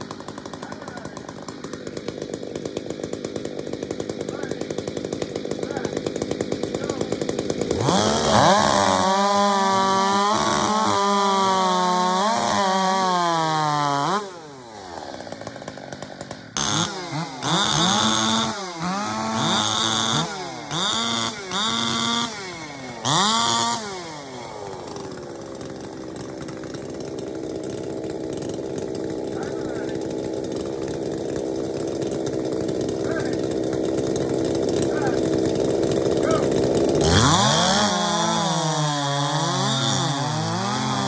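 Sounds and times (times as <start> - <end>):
chainsaw idling and revving: 0.0 - 41.0.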